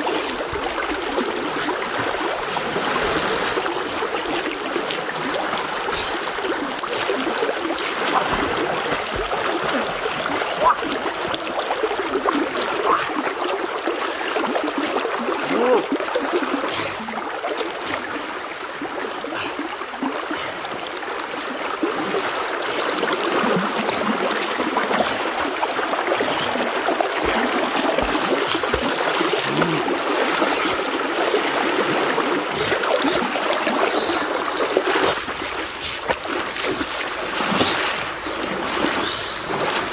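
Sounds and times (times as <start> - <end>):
person wading splashing: 0.0 - 39.9
river water rushing: 0.0 - 39.9.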